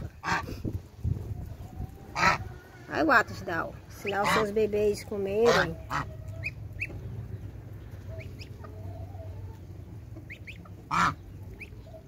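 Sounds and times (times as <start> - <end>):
goslings pecking food: 0.0 - 12.0
goslings peeping: 0.0 - 12.0.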